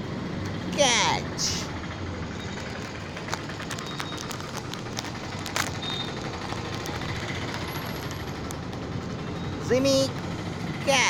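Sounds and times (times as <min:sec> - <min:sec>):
low hum of distant traffic: 0:00.0 - 0:11.0.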